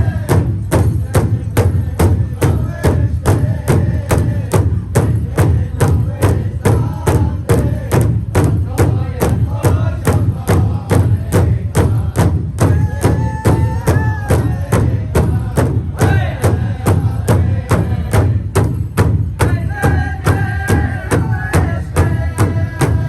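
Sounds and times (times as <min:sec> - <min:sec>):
group singing: 0:00.0 - 0:23.0
large drum steady beat: 0:00.0 - 0:23.0.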